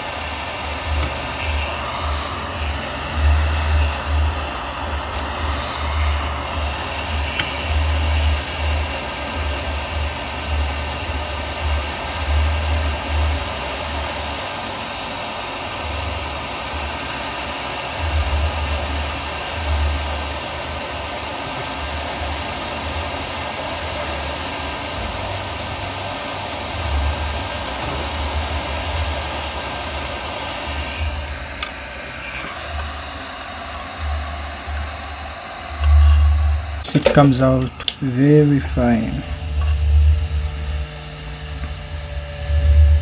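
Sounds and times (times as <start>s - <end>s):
hot air blower hissing: 0.0s - 43.0s.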